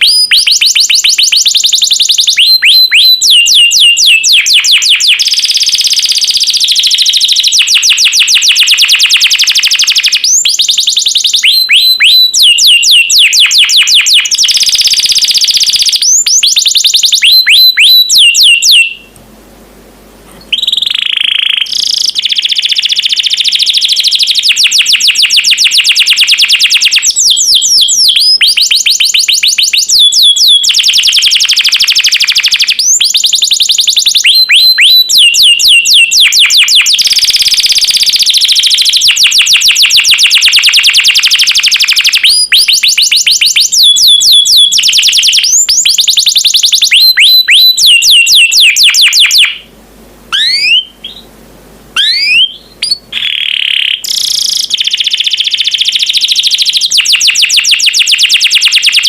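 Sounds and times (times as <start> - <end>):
canary singing trills: 0.0 - 19.2, 20.4 - 49.7, 50.3 - 51.3, 52.0 - 59.0.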